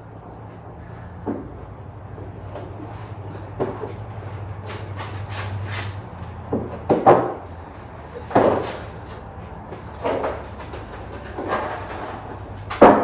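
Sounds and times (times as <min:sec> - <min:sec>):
low steady hum: 0:00.0 - 0:12.8
knocks and clunks: 0:01.2 - 0:13.0.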